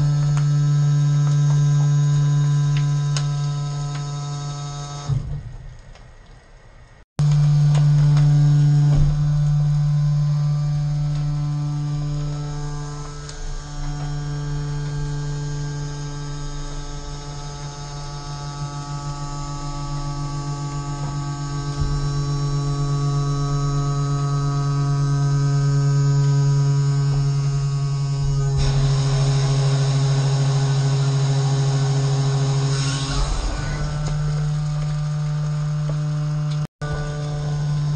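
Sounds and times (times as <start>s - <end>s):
hydraulic drive humming: 0.0s - 37.9s.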